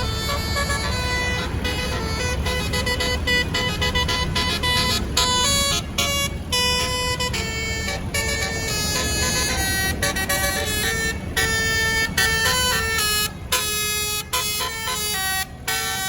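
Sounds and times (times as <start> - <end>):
musical bus horn tune: 0.0 - 16.0.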